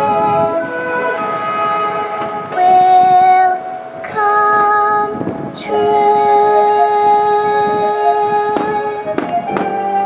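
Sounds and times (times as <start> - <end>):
woman singing: 0.0 - 1.4, 2.5 - 10.0
sustained orchestral chords: 0.0 - 10.0.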